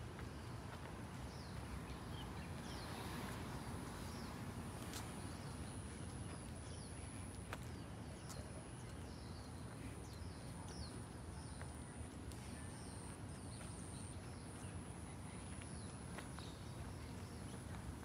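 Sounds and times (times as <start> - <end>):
light footsteps on path: 0.0 - 18.0.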